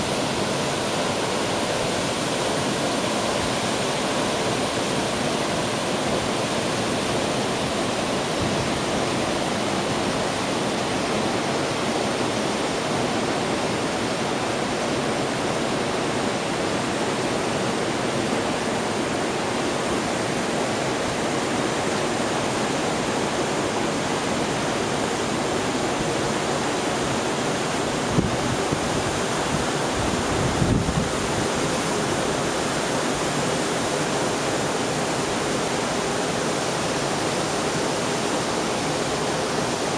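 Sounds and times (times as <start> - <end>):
water cascade rushing: 0.0 - 39.9.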